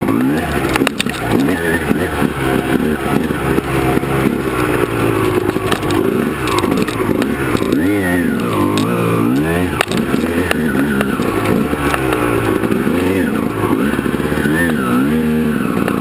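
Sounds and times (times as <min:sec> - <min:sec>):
two-stroke dirt bike engine revving: 0:00.0 - 0:16.0.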